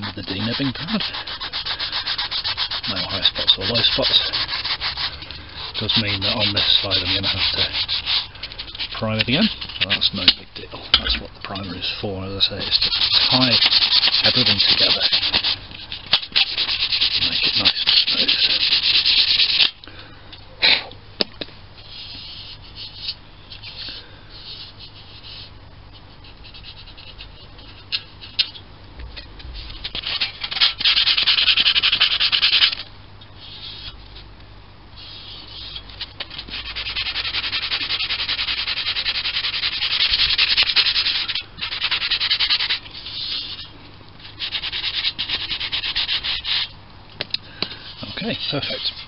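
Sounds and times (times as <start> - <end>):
pad rubbing on metal: 0.0 - 19.8, 21.8 - 32.8, 33.4 - 34.3, 35.0 - 46.7, 47.8 - 49.0.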